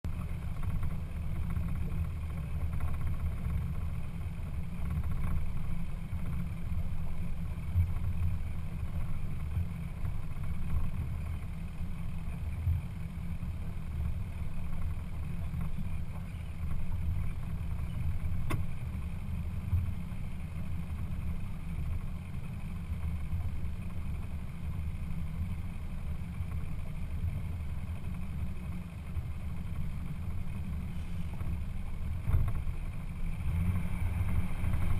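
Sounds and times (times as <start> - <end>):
boat engine rumble: 0.0 - 34.9.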